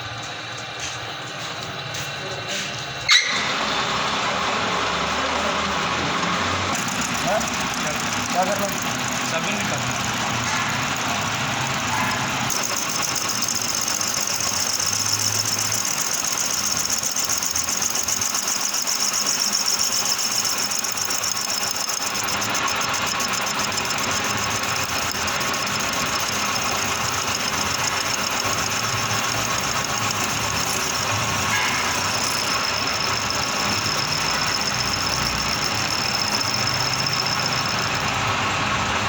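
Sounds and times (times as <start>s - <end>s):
metal lathe running: 0.0s - 39.0s
high-pitched scraping whine: 6.5s - 38.9s.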